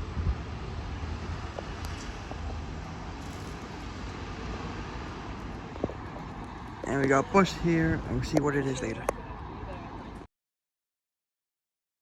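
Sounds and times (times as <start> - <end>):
diesel bus engine rumbling: 0.0 - 10.2.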